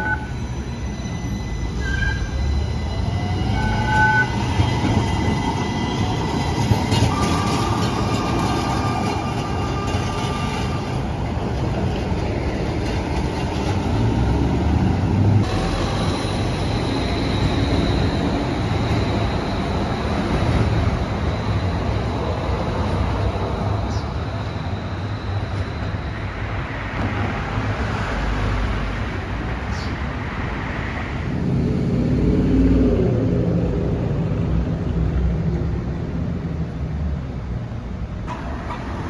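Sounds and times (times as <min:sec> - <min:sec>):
street traffic: 0:00.0 - 0:39.0
tram rumbling on rails: 0:00.0 - 0:39.0.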